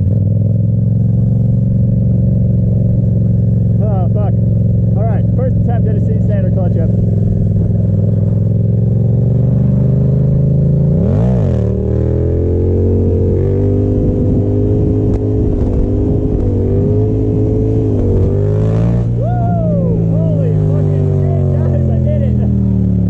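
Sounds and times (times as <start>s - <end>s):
motorcycle engine running and revving: 0.0s - 23.0s.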